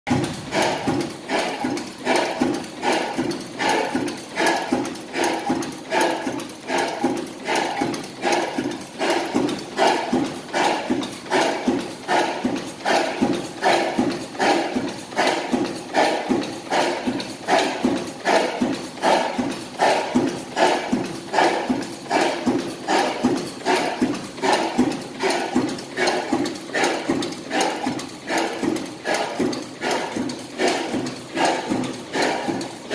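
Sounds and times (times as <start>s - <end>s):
oil engine knocking steadily: 0.1s - 32.9s.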